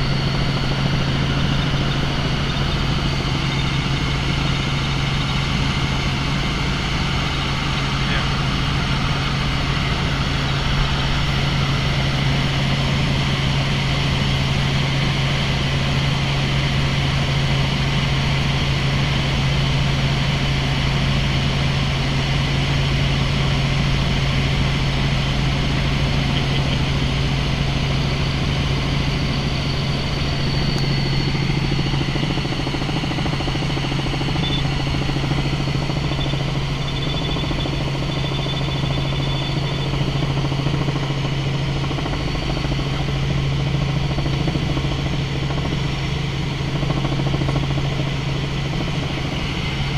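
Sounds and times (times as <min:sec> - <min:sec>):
helicopter in flight: 0:00.0 - 0:49.9.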